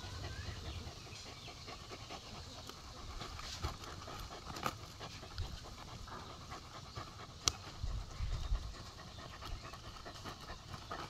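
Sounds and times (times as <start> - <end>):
dog panting: 0.0 - 11.0
paws scraping soil: 0.0 - 11.0.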